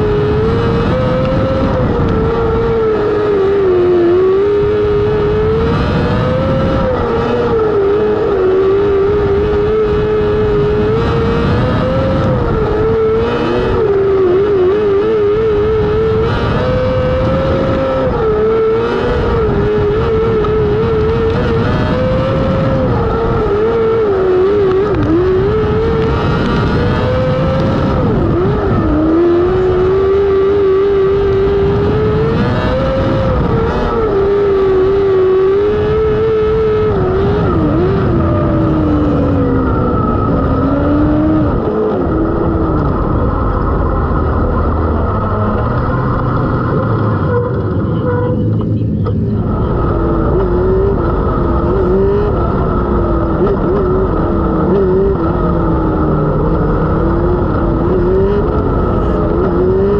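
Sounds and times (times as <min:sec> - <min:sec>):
racing motorcycle engine: 0:00.0 - 0:59.9.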